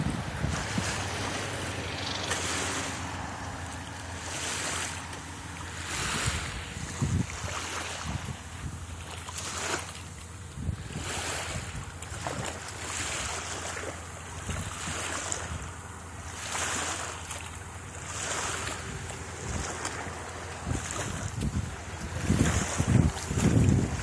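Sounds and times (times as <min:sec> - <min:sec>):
small waves washing on beach: 0:00.0 - 0:24.0
wind rumbling on microphone: 0:00.0 - 0:24.0.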